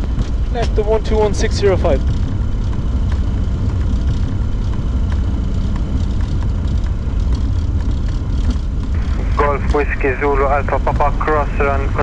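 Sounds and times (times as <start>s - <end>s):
jet engines idling low rumble: 0.0s - 12.0s.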